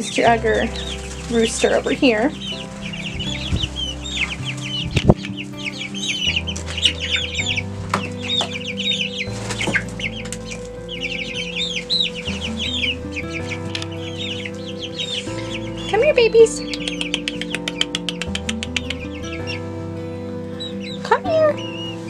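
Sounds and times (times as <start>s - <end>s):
chicks peeping and cheeping: 0.0s - 22.0s
soft background music: 0.0s - 22.0s.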